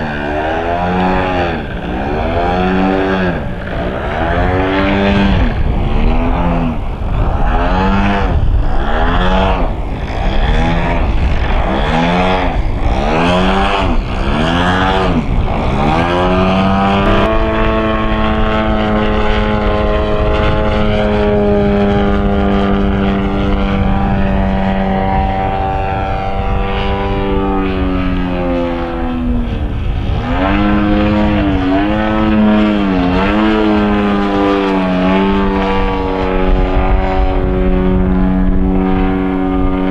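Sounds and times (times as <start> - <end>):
model plane engine in flight: 0.0 - 39.9.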